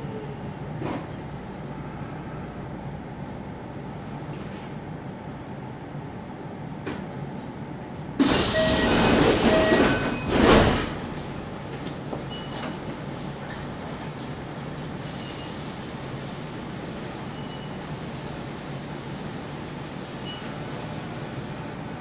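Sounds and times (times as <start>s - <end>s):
train low hum: 0.0s - 22.0s.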